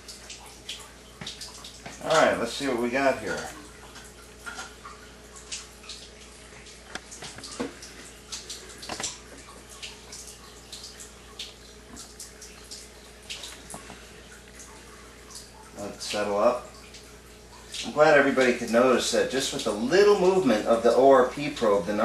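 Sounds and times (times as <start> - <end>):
faint steady hum: 0.0 - 22.0
small clicks and drips: 0.0 - 22.0
water trickling into a sink: 0.0 - 22.0.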